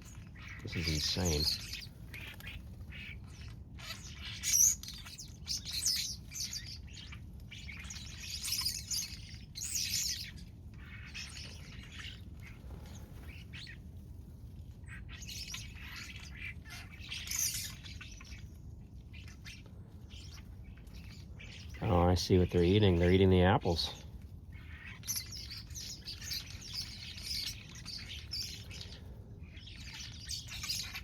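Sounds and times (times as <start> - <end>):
flock of birds chirping: 0.0 - 31.0.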